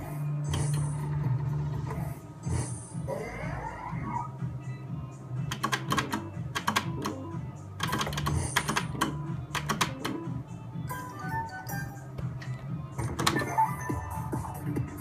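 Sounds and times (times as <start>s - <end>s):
looping slot machine music: 0.0s - 15.0s.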